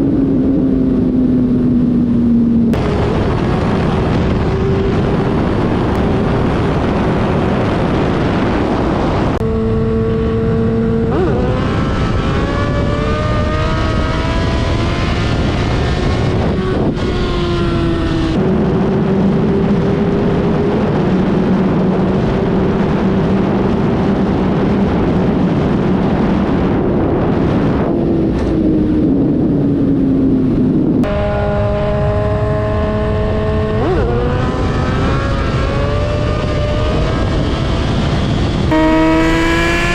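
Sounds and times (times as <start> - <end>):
constant rushing noise: 0.0 - 39.9
motorcycle engine accelerating: 0.0 - 39.9.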